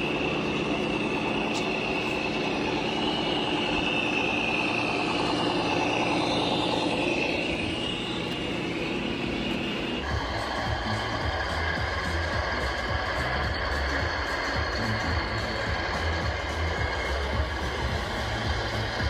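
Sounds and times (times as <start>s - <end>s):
model vehicle motor whine: 0.0s - 19.0s.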